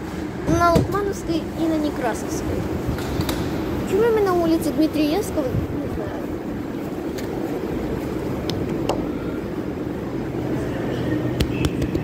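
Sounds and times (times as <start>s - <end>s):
metro platform rumble: 0.0s - 12.0s.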